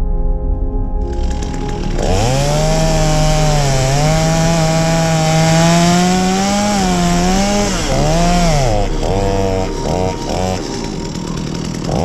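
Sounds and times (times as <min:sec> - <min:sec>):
chainsaw engine revving: 0:01.2 - 0:12.0.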